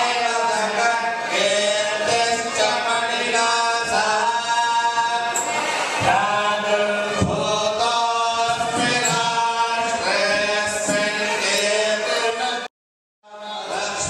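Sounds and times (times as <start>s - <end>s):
devotional chanting: 0.0s - 12.7s, 13.3s - 14.0s.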